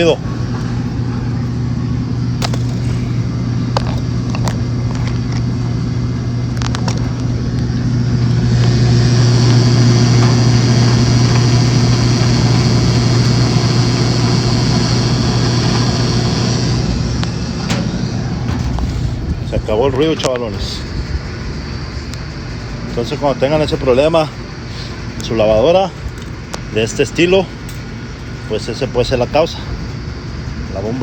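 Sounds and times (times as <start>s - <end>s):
washing machine humming: 0.0s - 31.0s.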